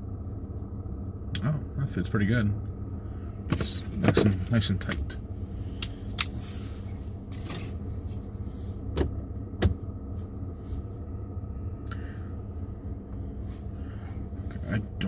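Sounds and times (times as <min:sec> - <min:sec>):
car rumble: 0:00.0 - 0:15.0.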